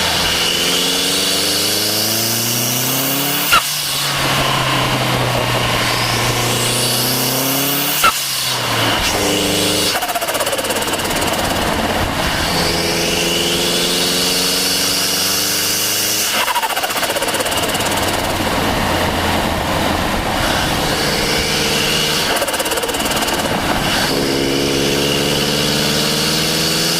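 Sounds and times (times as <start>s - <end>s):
car engine pulling hard: 0.0s - 26.9s
turbo spool whine: 2.5s - 25.4s.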